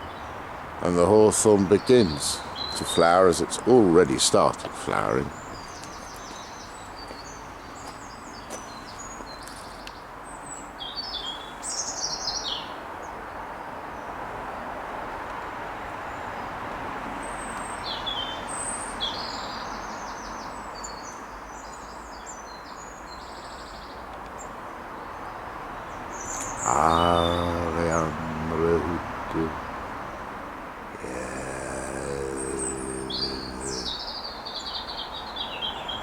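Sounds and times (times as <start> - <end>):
small birds chirping and trilling: 0.0 - 14.1, 17.2 - 29.3, 31.0 - 36.0
road traffic hum: 0.0 - 22.0, 23.6 - 36.0.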